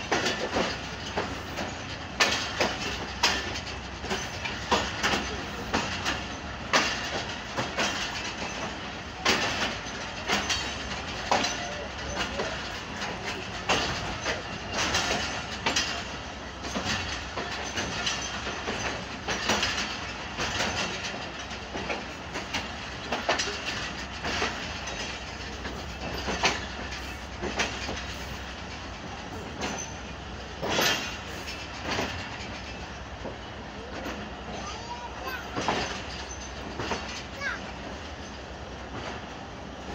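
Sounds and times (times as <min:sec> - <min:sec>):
train coach rumbling: 0:00.0 - 0:39.9
wheels clacking over rail joints: 0:00.0 - 0:39.9.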